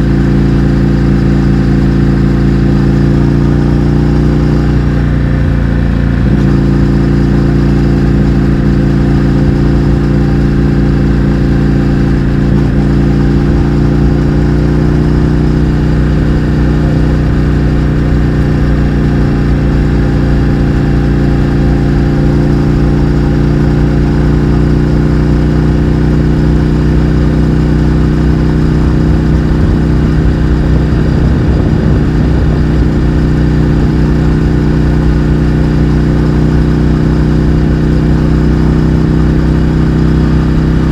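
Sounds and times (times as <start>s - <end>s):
motorcycle engine at steady speed: 0.0s - 40.9s.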